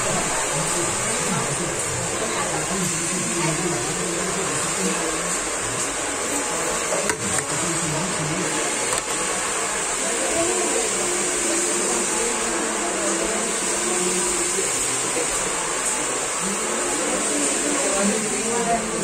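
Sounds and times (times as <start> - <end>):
hair being scrubbed: 0.0 - 19.0
water rushing from handheld sprayer: 0.0 - 19.0.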